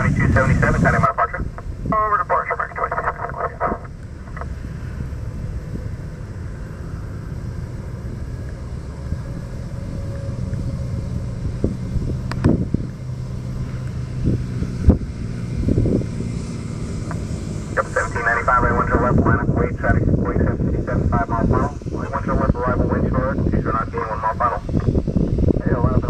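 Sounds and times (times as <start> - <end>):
propeller plane engine droning: 0.0 - 26.0
wind on microphone: 0.0 - 26.0.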